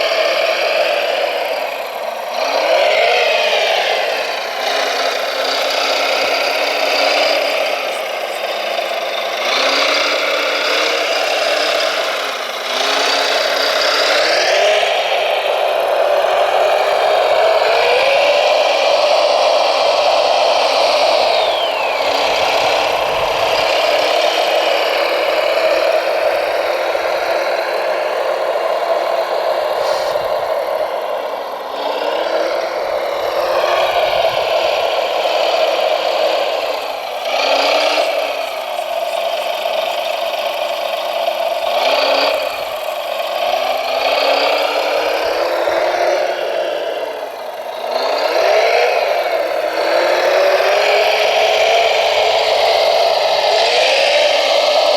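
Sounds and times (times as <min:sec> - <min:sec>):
electric motors and gears whining: 0:00.0 - 0:54.9.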